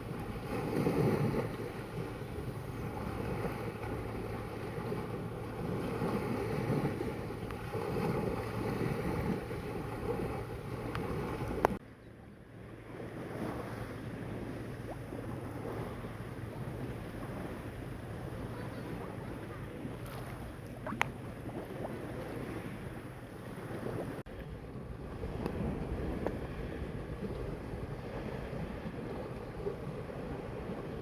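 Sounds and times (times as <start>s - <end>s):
sea waves washing in: 0.0s - 11.8s, 12.5s - 31.0s
wind buffeting microphone: 0.0s - 11.8s, 12.5s - 31.0s.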